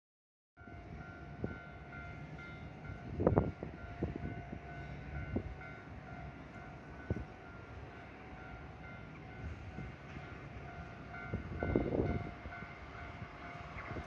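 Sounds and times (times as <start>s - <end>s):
train passing: 0.6s - 14.0s
train rumble: 0.6s - 14.0s.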